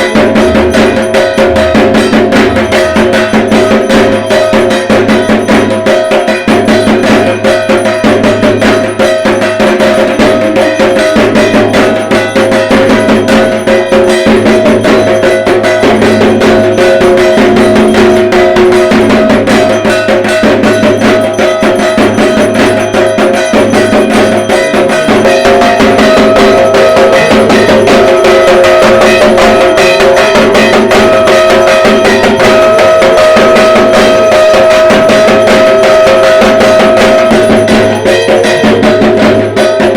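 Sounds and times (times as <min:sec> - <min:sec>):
barrel drum beaten with sticks: 0:00.0 - 0:39.9
steady ringing tone: 0:00.0 - 0:39.9.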